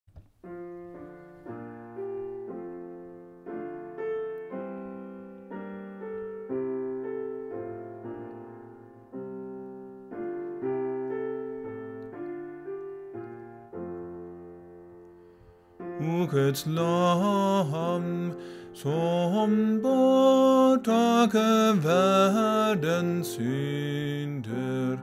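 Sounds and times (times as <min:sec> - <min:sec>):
piano playing hymn chords: 0:00.4 - 0:25.0.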